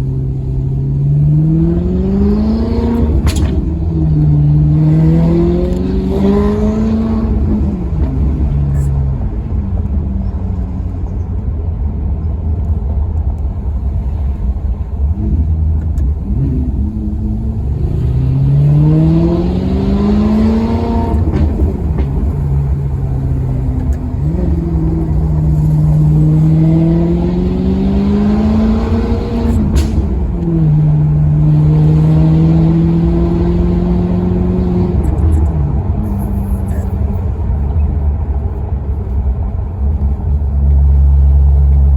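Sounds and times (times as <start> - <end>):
car engine revving: 0.0 - 11.0, 13.6 - 41.9.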